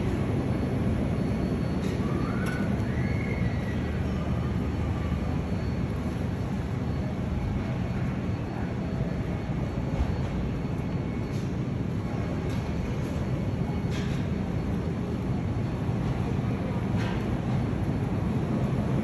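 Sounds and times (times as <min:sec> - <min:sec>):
machinery hum and rumble: 0:00.0 - 0:19.0.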